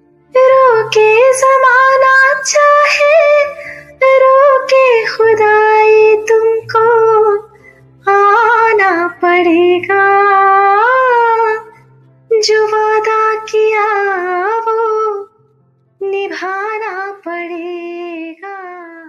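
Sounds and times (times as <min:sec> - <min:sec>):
woman singing: 0:00.3 - 0:15.3, 0:16.0 - 0:19.0.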